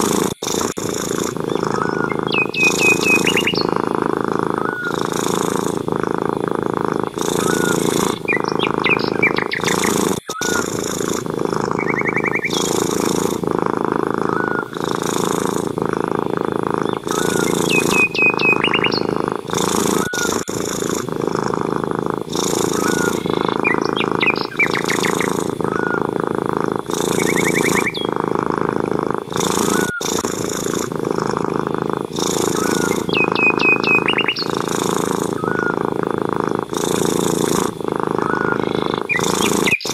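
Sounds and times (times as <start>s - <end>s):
birds chirping and trilling: 0.0s - 13.6s, 14.2s - 35.8s, 36.6s - 39.9s
cat purring: 0.0s - 39.9s.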